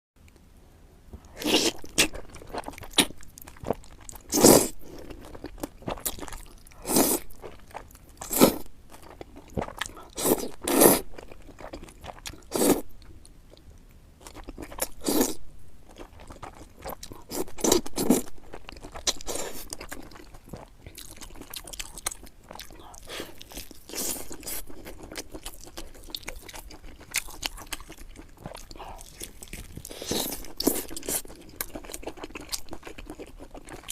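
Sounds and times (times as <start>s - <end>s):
person crunching and chewing food: 1.2s - 13.6s, 14.2s - 33.9s.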